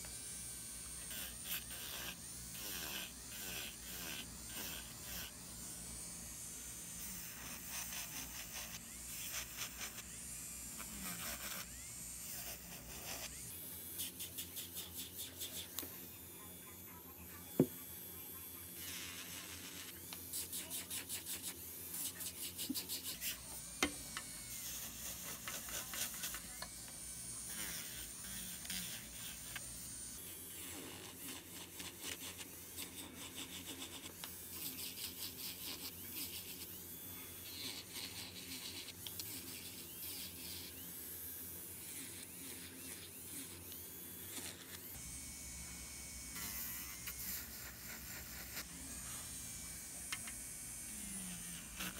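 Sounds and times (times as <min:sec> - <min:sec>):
electric nail drill whirring: 0:00.0 - 0:51.9.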